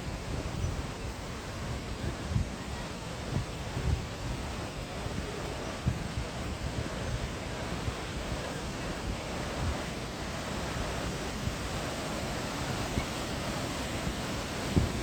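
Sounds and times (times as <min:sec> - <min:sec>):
steady outdoor rushing noise: 0:00.0 - 0:15.0
wind buffeting microphone: 0:00.0 - 0:15.0.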